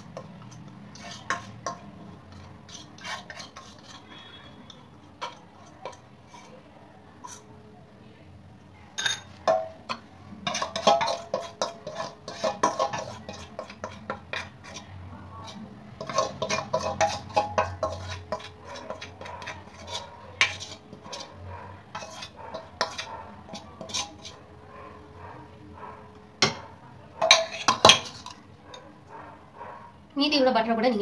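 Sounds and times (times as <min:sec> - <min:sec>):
utensil scraping a metal bowl: 0:00.0 - 0:07.6, 0:09.0 - 0:29.8.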